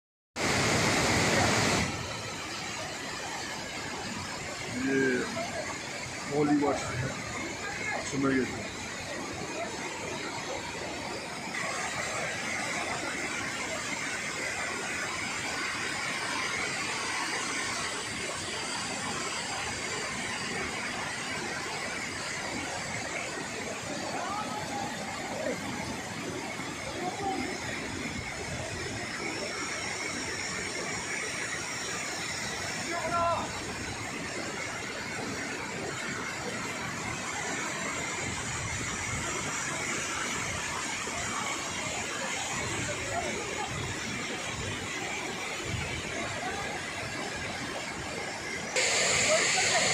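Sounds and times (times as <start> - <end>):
waterfall rushing: 0.4 - 49.9.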